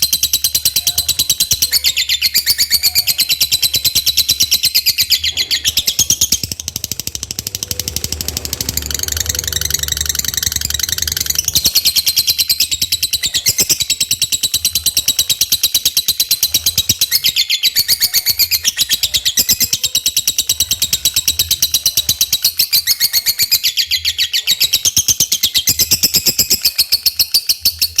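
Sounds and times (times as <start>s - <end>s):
lovebird chattering chirps: 0.0s - 28.0s.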